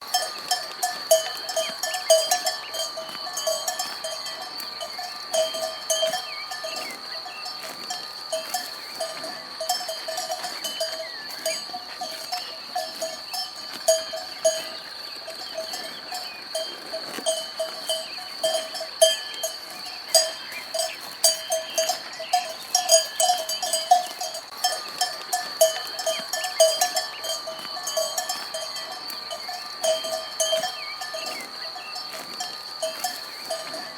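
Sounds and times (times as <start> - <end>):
cowbells clanking: 0.0 - 33.9.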